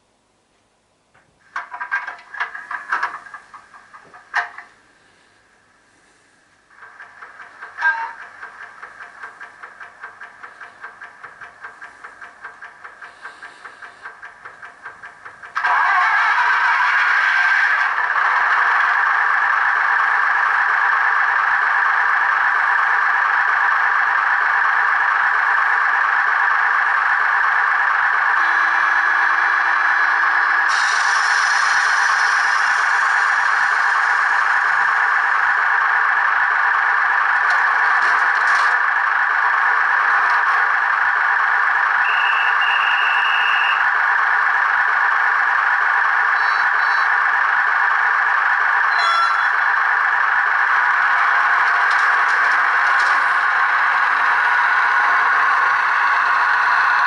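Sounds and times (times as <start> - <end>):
tinny diesel engine sound: 2.1 - 57.0.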